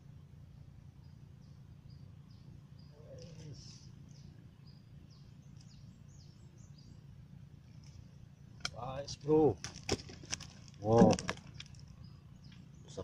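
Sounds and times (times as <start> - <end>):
low background rumble: 0.0 - 13.0
small birds chirping: 0.4 - 13.0.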